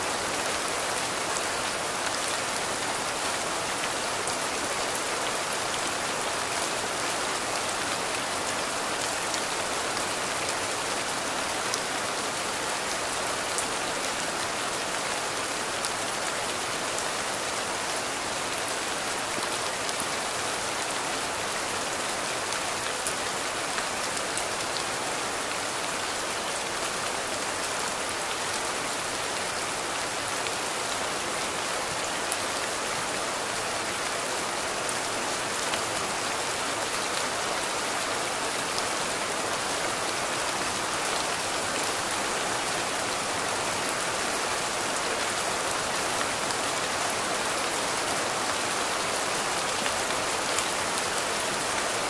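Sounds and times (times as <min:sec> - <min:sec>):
steady rainfall hiss: 0:00.0 - 0:52.0.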